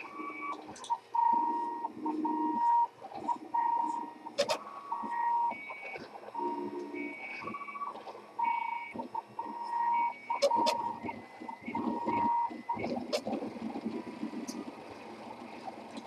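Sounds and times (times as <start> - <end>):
stepper motors singing tones: 0.0 - 15.5
printer rough whir: 0.0 - 16.0.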